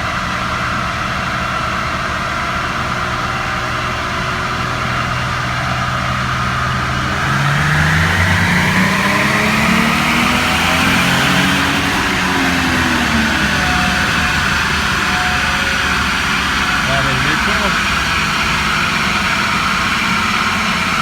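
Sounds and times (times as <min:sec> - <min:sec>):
truck engine accelerating under load: 0:00.0 - 0:21.0.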